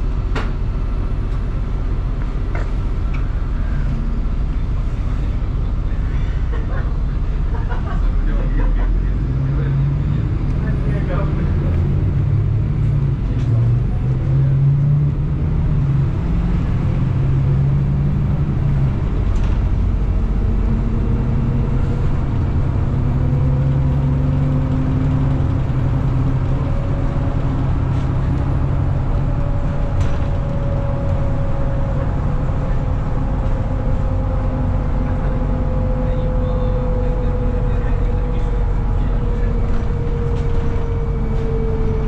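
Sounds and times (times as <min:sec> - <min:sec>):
bus engine and road noise: 0:00.0 - 0:42.0.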